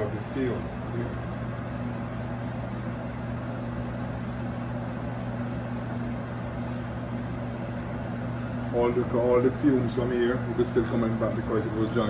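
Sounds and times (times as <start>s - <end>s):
range hood blower humming: 0.0s - 12.0s.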